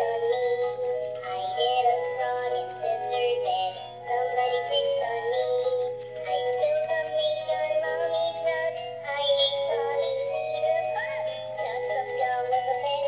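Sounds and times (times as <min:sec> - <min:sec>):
toy singing in electronic voice: 0:00.0 - 0:13.0.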